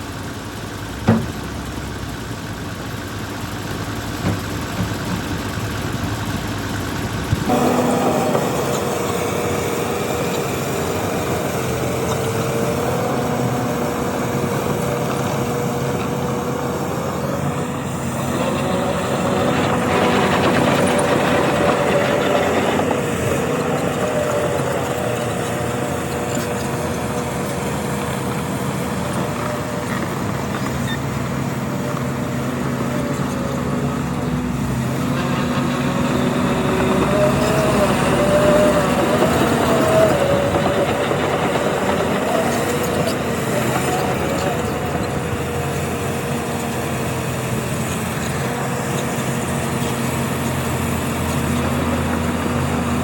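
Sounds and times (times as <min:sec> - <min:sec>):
diesel machinery running: 0:00.0 - 0:53.0
steady machine whine: 0:07.0 - 0:30.5, 0:33.6 - 0:53.0.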